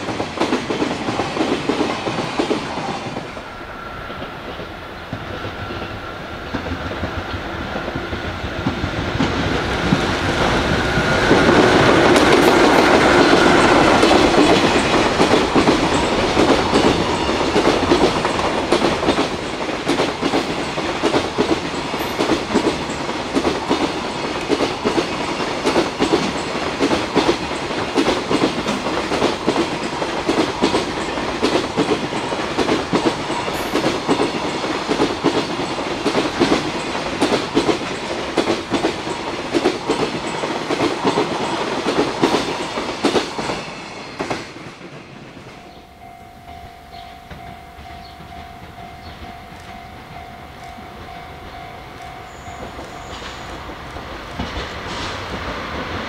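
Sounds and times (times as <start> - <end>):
freight train wheels clicking on rails: 0.0 - 56.0.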